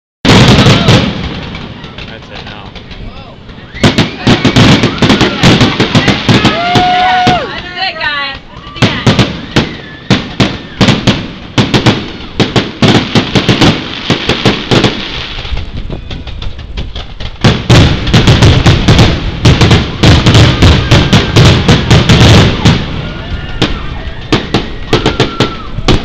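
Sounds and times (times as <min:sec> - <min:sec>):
fireworks bangs and crackles: 0:00.2 - 0:26.0.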